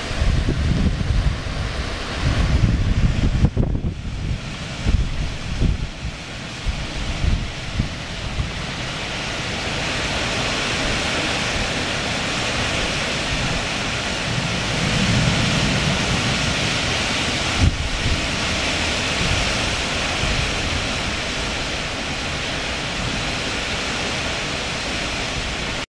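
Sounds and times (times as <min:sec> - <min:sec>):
gusty wind through trees: 0:00.0 - 0:25.8
leaves blowing: 0:00.0 - 0:25.8
wind buffeting microphone: 0:00.0 - 0:25.8.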